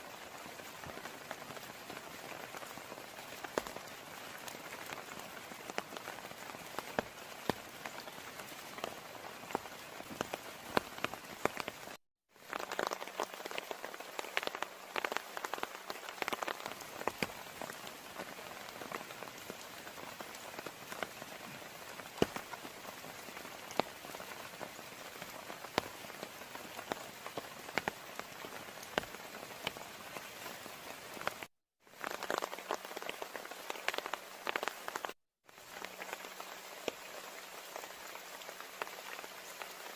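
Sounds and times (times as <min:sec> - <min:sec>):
heavy rain falling: 0:00.0 - 0:39.9
sharp raindrops striking close: 0:00.0 - 0:39.9.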